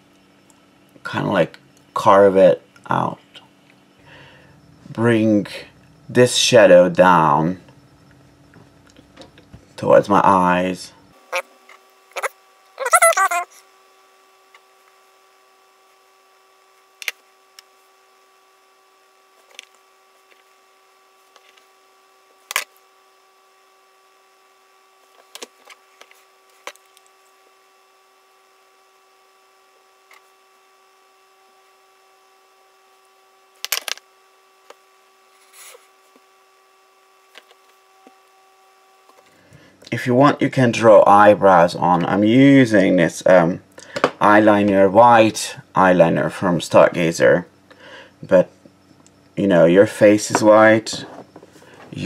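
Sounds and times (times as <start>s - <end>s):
electrical hum: 0.0s - 52.0s.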